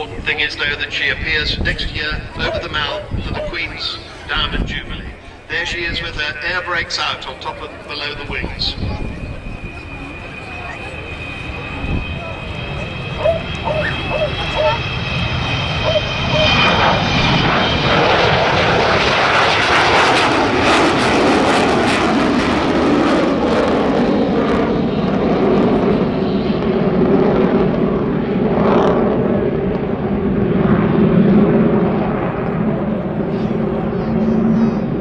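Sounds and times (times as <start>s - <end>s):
jet bomber engines passing: 0.0s - 35.0s.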